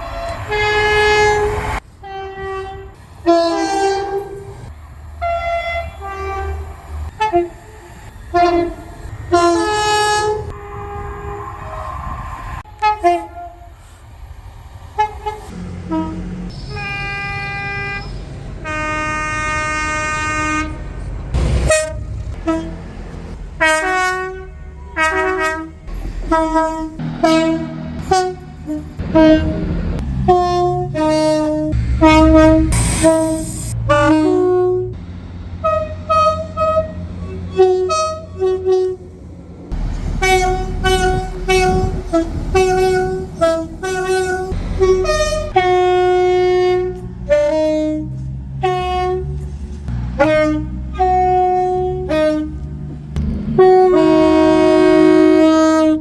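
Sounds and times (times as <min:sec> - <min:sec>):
train horn blasts: 0:00.0 - 0:13.9, 0:15.0 - 0:56.0
train running rumble: 0:00.0 - 0:56.0.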